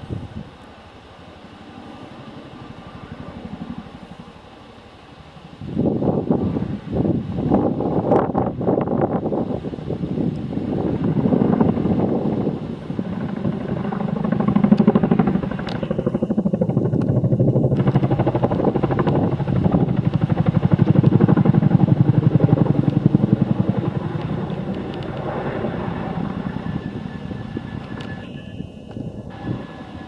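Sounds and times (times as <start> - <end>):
tandem-rotor helicopter flying overhead: 0.0 - 30.0.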